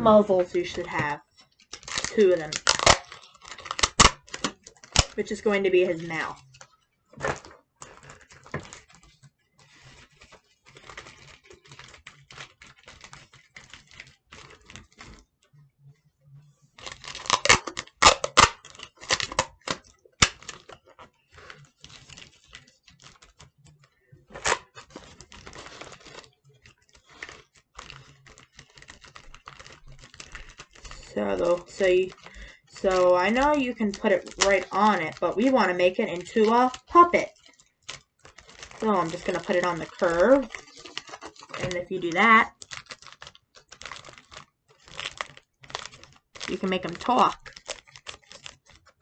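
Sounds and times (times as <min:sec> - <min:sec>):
paper and tape tearing: 0:00.0 - 0:15.2, 0:16.8 - 0:49.0
paper crinkling and rustling: 0:00.0 - 0:15.7, 0:16.4 - 0:49.0.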